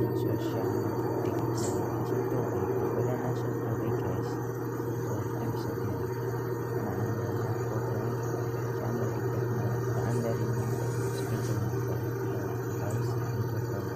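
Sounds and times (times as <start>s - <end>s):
washing machine spin cycle hum: 0.0s - 13.9s.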